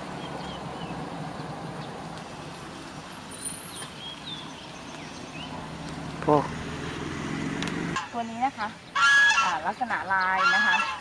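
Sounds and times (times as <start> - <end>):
distant road traffic rumble: 0.0 - 11.0
low vehicle hum: 0.0 - 11.0.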